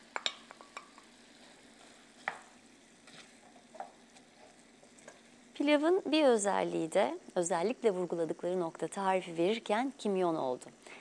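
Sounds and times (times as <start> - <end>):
onion and beef frying: 0.0 - 11.0.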